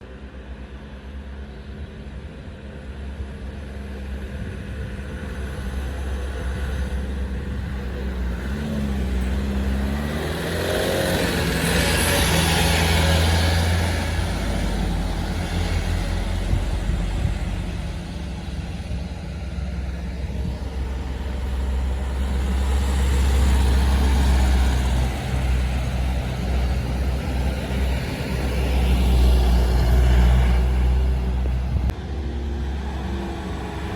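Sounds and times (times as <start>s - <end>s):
truck engine open exhaust drone: 0.0s - 33.9s.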